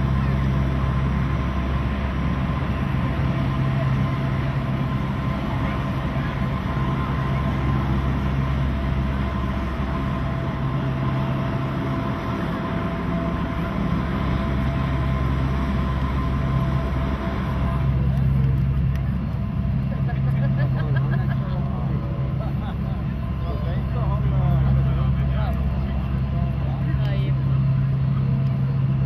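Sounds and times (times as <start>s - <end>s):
propeller plane engine drone: 0.0s - 29.0s.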